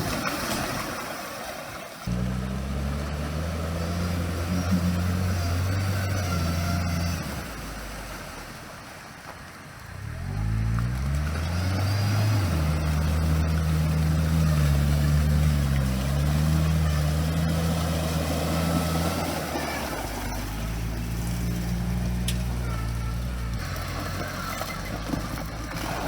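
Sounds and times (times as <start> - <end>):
driving through water: 0.0 - 26.0
atv engine revving: 2.0 - 8.8, 9.8 - 26.0.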